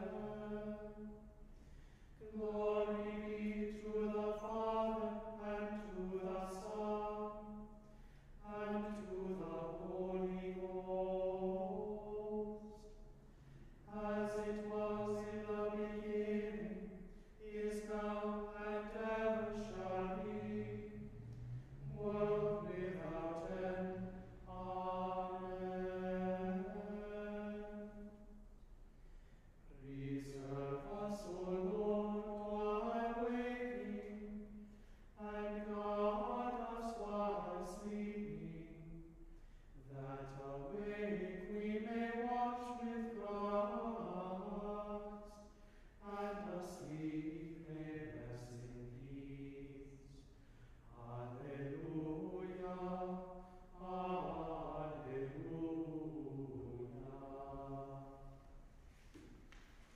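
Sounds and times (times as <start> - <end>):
choir chanting plainchant: 0.0 - 1.2, 2.2 - 7.7, 8.4 - 12.8, 13.8 - 28.3, 29.7 - 34.6, 35.2 - 39.1, 39.8 - 50.3, 50.9 - 58.4.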